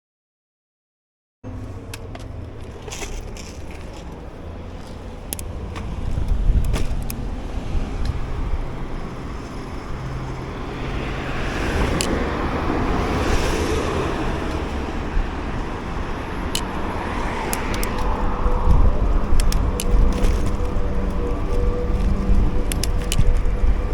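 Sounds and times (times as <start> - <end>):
road traffic: 1.4 - 23.9
vehicle passing: 1.5 - 23.9
wind rumble on microphone: 1.7 - 23.9.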